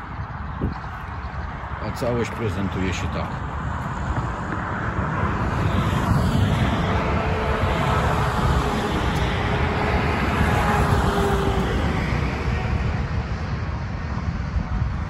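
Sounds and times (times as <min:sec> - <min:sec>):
passing traffic rumbling: 0:00.0 - 0:15.0.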